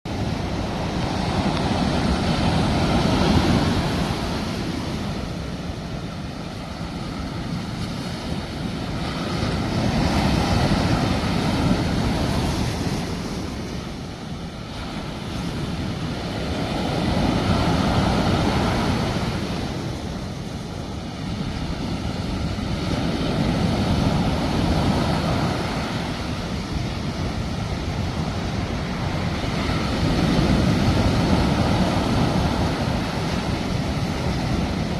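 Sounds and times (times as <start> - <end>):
sea waves washing onto shore: 0.1 - 34.9.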